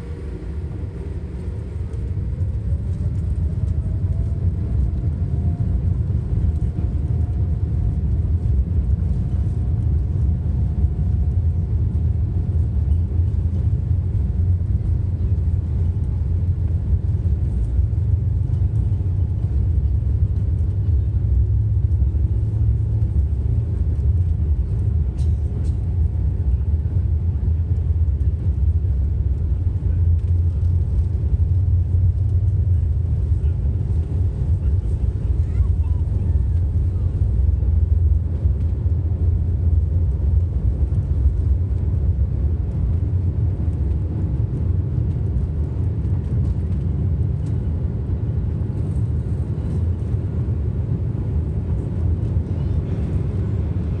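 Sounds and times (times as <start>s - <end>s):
faint engine whine: 0.0s - 54.0s
jet engines low rumble: 0.0s - 54.0s.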